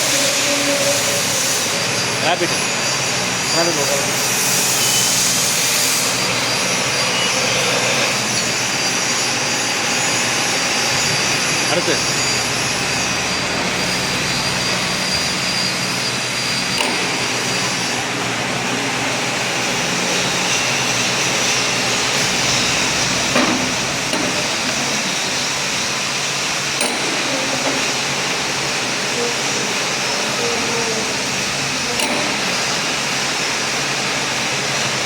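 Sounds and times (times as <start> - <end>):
high mechanical whine: 0.0 - 35.0
milling machine drone: 0.0 - 35.0.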